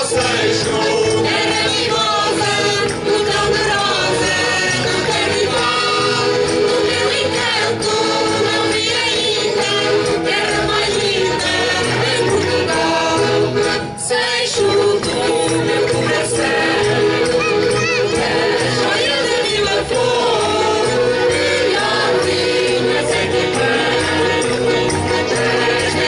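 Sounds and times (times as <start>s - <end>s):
mixed choir singing folk song: 0.0s - 26.0s.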